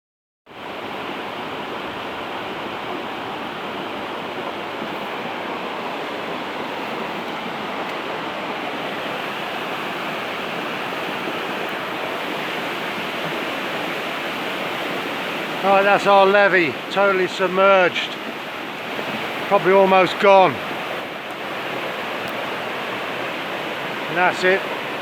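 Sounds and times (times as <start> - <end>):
flooded river rushing: 0.5 - 25.0.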